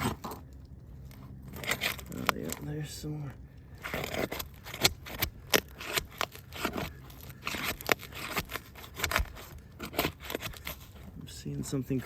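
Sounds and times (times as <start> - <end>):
roof shingles being peeled apart: 0.0 - 12.0.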